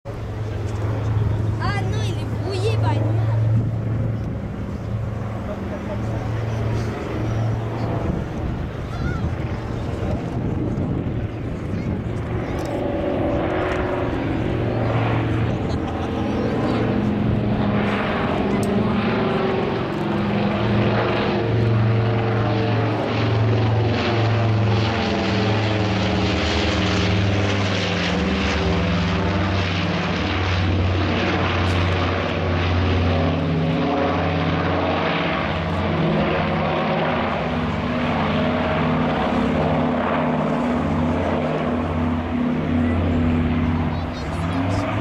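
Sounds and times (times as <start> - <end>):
propeller aircraft flying overhead: 0.0 - 45.0.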